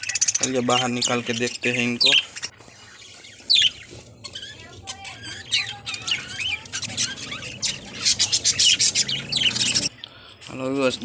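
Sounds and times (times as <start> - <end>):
birds squawking and chirping: 0.0 - 11.0.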